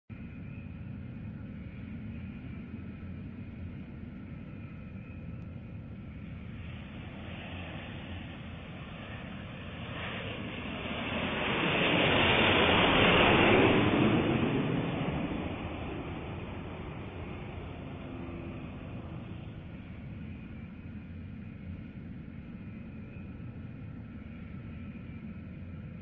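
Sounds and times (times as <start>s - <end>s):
jet airliner engine roar: 0.1s - 26.0s.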